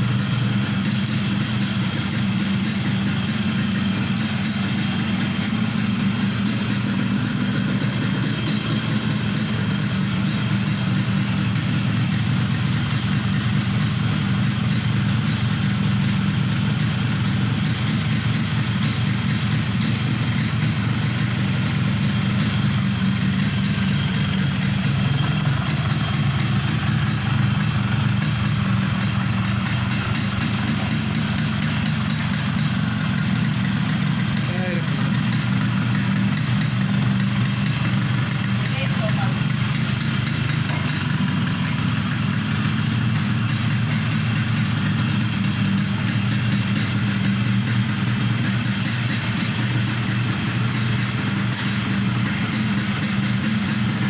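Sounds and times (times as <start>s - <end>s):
two-stroke engine idling: 0.0s - 54.0s.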